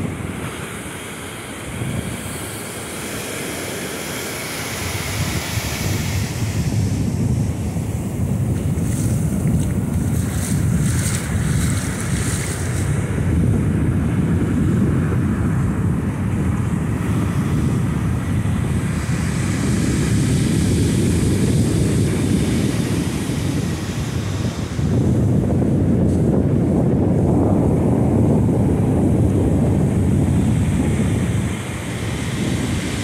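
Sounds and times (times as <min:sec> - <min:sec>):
surf washing up sand: 0:00.0 - 0:33.0
wind buffeting microphone: 0:00.0 - 0:33.0.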